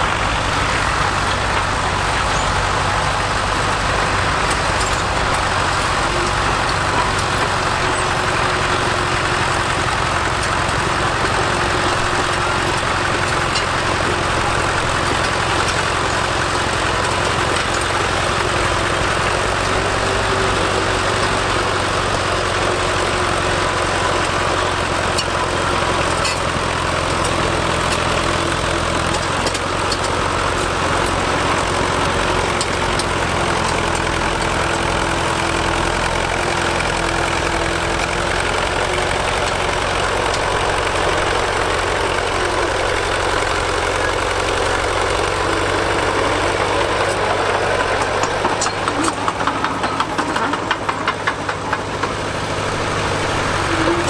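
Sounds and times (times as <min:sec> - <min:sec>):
bulldozer engine running: 0:00.0 - 0:54.0.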